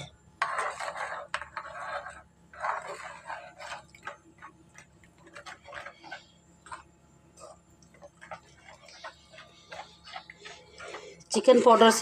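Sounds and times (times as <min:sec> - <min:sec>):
spatula scraping a pan: 0:00.0 - 0:12.0.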